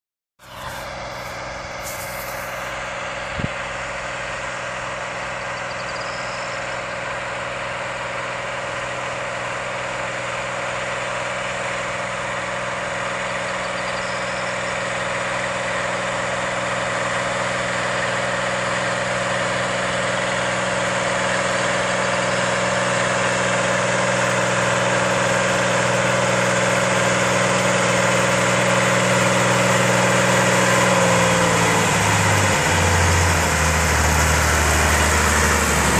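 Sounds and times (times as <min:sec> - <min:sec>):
tractor diesel engine running: 0:00.4 - 0:35.9.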